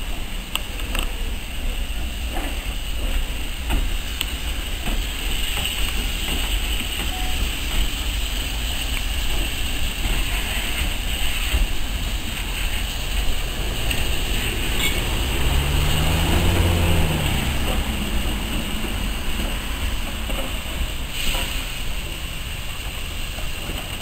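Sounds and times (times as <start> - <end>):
locomotive rumbling: 0.0 - 24.0.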